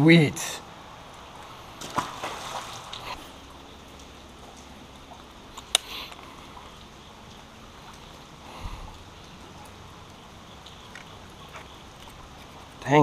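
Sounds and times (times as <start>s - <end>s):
creek flowing: 0.0s - 13.0s.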